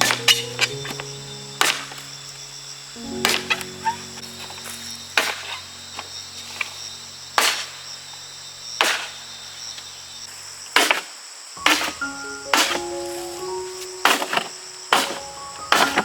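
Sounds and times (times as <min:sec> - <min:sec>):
soft background music: 0:00.0 - 0:09.6, 0:11.6 - 0:16.0
crickets chirping: 0:00.0 - 0:16.0.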